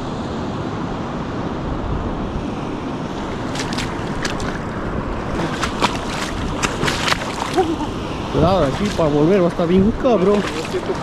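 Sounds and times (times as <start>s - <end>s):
ocean surf washing: 0.0s - 11.0s
wind buffeting microphone: 1.2s - 11.0s.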